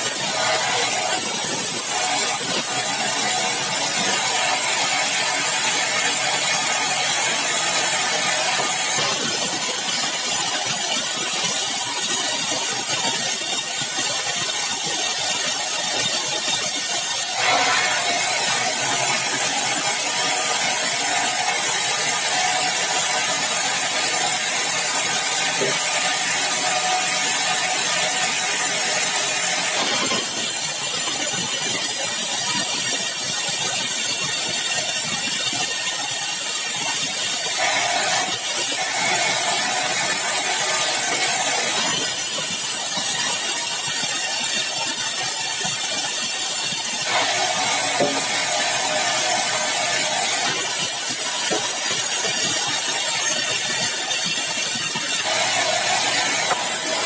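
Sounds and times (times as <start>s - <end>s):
saw cutting through log: 0.0s - 57.0s.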